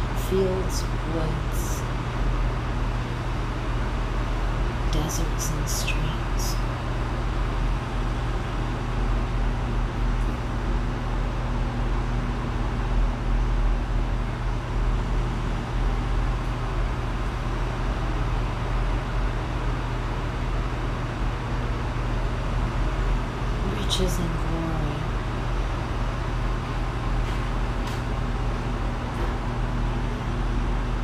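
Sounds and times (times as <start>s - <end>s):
low rumble and hum: 0.0s - 31.0s.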